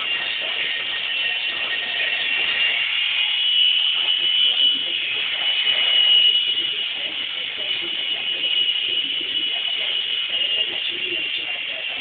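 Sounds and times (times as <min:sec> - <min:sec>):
helicopter whine from television: 0:00.0 - 0:12.0
muffled voices: 0:00.0 - 0:12.0.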